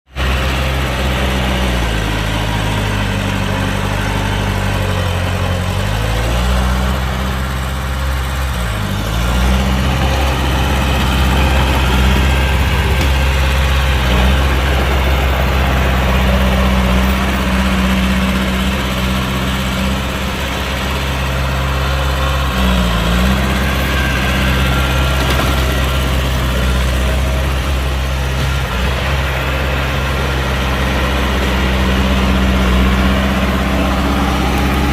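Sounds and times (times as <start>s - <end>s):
heavy diesel engines running: 0.1s - 34.9s.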